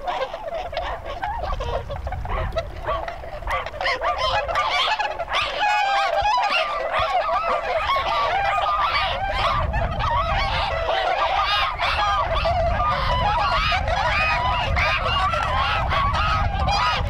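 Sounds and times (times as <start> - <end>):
swans honking: 0.0 - 17.0.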